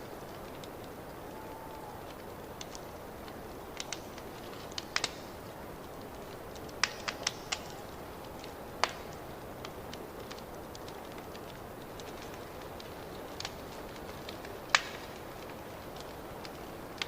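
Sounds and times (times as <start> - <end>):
fireplace fire crackling: 0.0 - 17.0
low hiss: 0.0 - 17.0.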